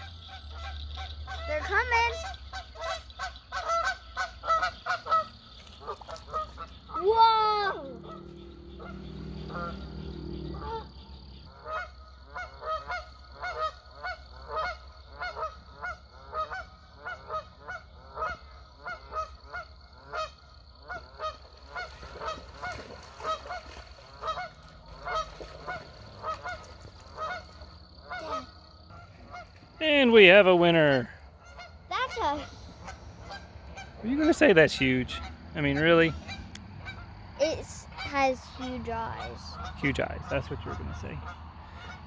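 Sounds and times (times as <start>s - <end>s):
geese honking: 0.0s - 37.1s, 37.9s - 42.0s.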